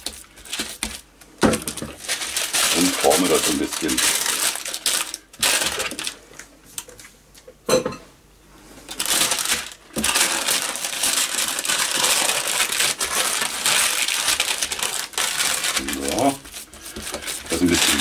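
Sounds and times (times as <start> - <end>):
baking paper crinkling: 0.0 - 7.2, 8.8 - 18.0.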